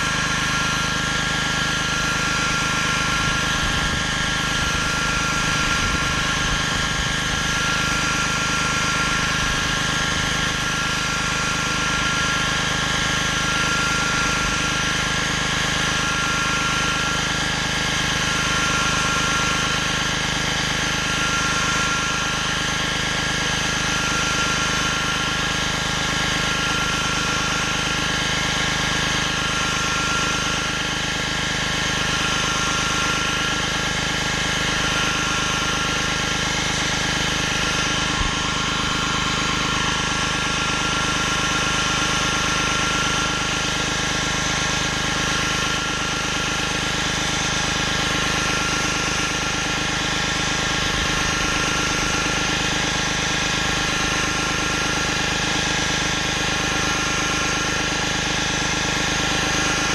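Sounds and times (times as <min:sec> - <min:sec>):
pressure washer engine running: 0:00.0 - 0:59.9.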